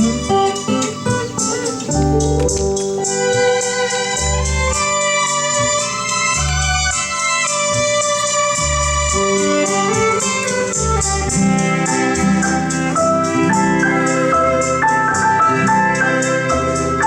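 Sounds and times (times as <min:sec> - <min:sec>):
bass line: 0:00.0 - 0:17.0
light percussion ticks: 0:00.0 - 0:17.0
organ-like keyboard chords: 0:00.0 - 0:17.0.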